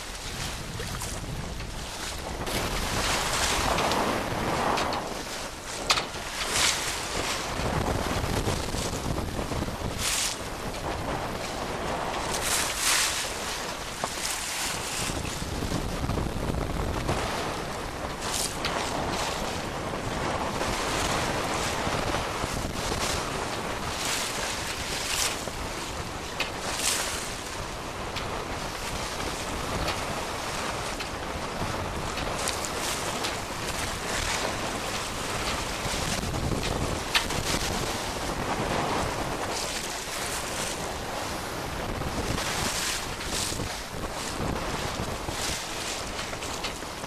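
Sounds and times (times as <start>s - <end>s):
water rushing along hull: 0.0s - 47.0s
wind buffeting microphone: 0.0s - 47.0s.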